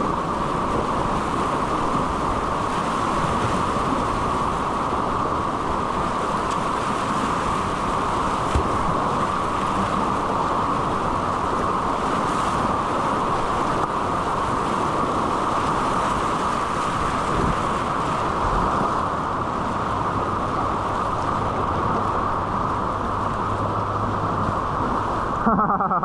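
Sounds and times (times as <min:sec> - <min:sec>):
river whitewater rushing: 0:00.0 - 0:26.0.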